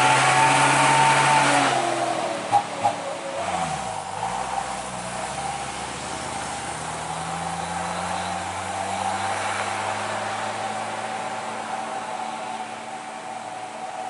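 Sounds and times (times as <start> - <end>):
truck engine climbing: 0.0 - 14.0.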